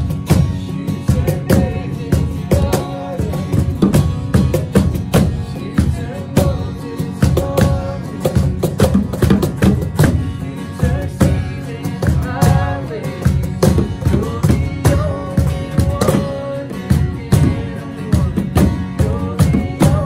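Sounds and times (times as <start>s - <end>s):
cajon and bongo hits: 0.0s - 20.0s
strummed acoustic guitars: 0.0s - 20.0s.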